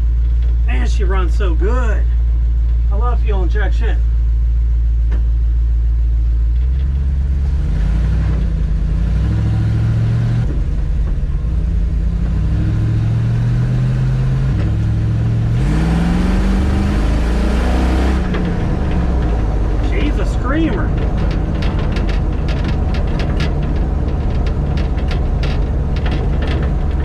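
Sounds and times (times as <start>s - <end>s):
truck engine accelerating: 4.1s - 27.0s.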